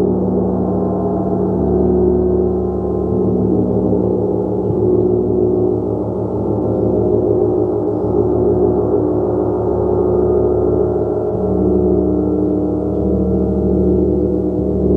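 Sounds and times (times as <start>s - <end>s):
large gong ringing: 0.0s - 14.9s.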